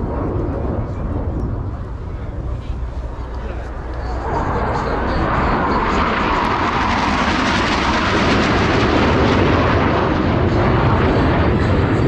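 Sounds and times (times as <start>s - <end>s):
jet engines in flight: 0.0s - 12.0s.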